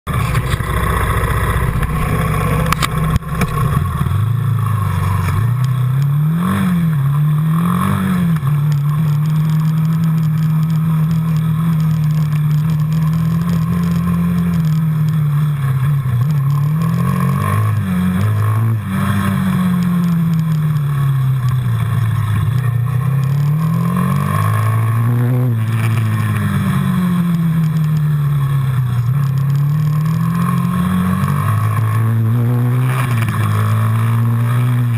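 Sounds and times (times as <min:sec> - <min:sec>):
quad bike engine revving: 0:00.1 - 0:34.9.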